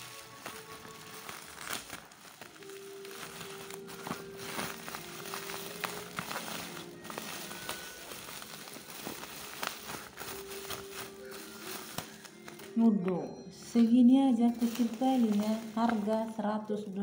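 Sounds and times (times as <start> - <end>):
bubble wrap crinkling: 0.0 - 17.0
faint background music: 0.0 - 17.0.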